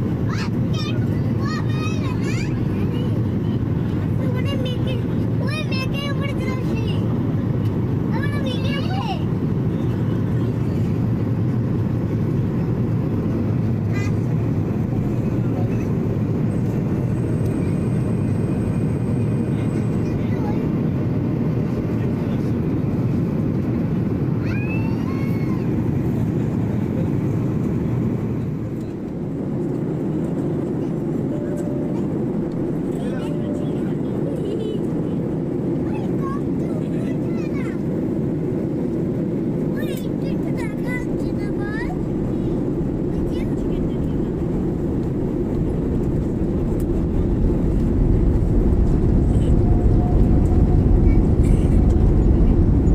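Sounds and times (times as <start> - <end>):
jet engine and airflow rush: 0.0 - 52.9.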